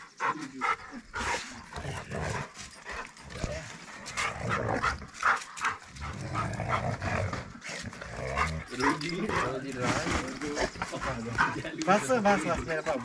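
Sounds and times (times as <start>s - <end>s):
dogs barking and growling: 0.0s - 13.0s.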